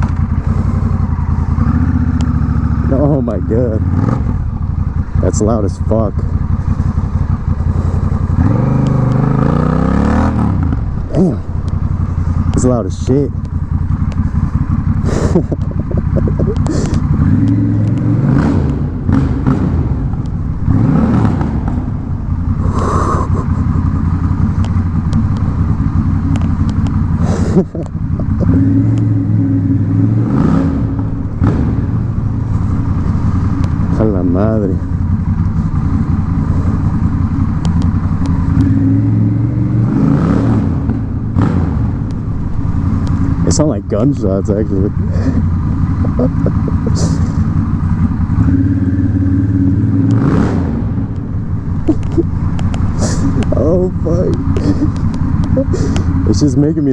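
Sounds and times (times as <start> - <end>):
motorcycle engine revving loudly: 0.0 - 56.9.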